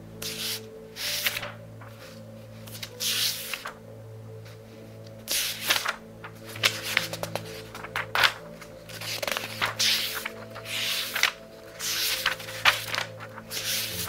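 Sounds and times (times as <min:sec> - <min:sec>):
soft background music: 0:00.0 - 0:14.0
book pages turning: 0:00.2 - 0:03.8, 0:04.4 - 0:14.0.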